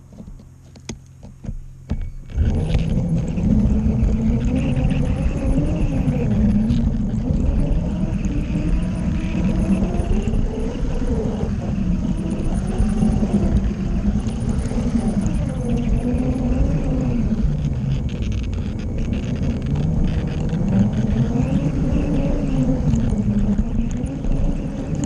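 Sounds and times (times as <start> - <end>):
motor whine: 0.0 - 25.0.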